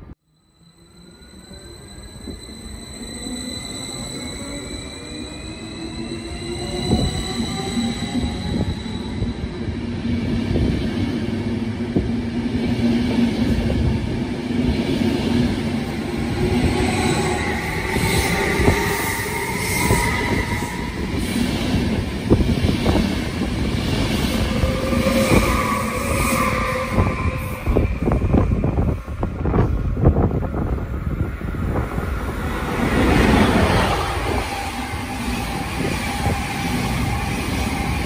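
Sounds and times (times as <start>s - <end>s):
high squealing tones: 0.3s - 9.7s, 15.2s - 22.3s, 22.9s - 38.0s
train wheels rumbling on rails: 2.2s - 38.0s.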